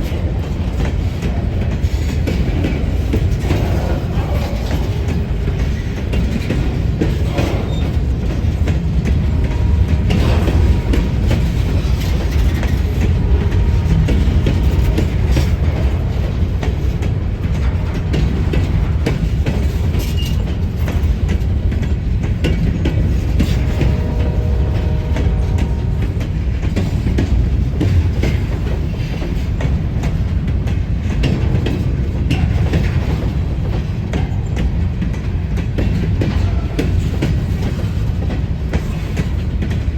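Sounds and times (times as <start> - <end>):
freight train rumbling past: 0.0 - 39.9
wheels clicking on rails: 0.0 - 39.9.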